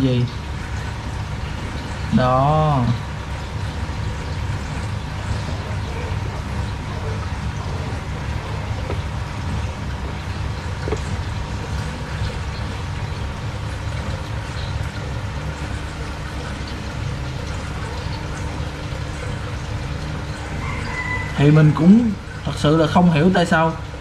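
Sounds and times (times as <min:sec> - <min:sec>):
aquarium pump humming: 0:00.0 - 0:24.0.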